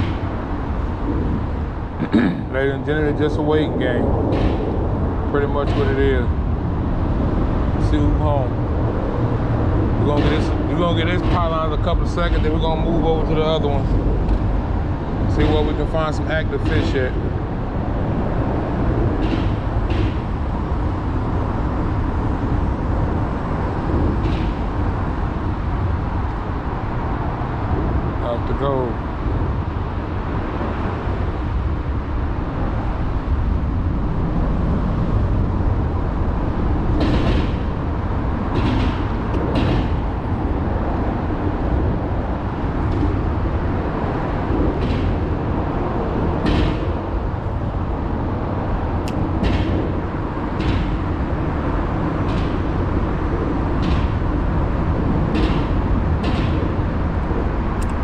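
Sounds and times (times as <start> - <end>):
boat engine low rumble: 0.0 - 58.0.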